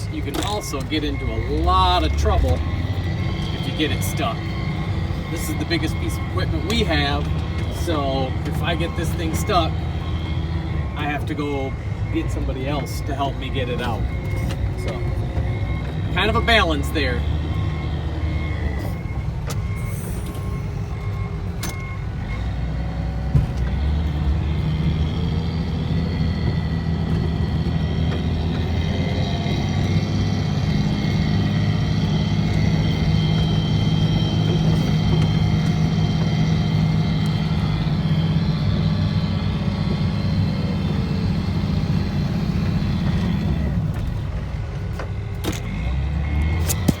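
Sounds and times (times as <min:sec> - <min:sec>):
diesel engine of wheel loader: 0:00.0 - 0:47.0.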